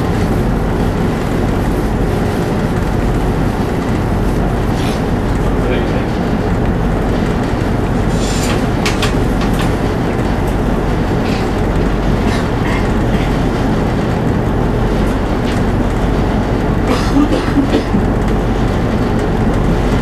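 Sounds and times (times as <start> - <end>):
diesel engines rumbling: 0.0 - 20.0
rattles and knocks: 0.0 - 20.0.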